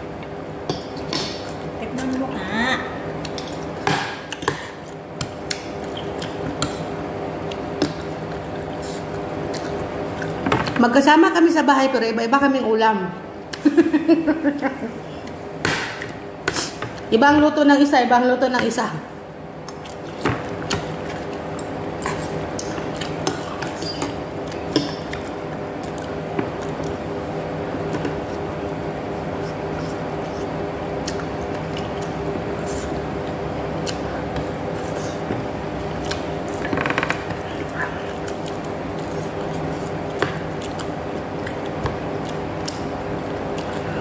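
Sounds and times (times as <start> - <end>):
steady background hum: 0.0 - 44.0.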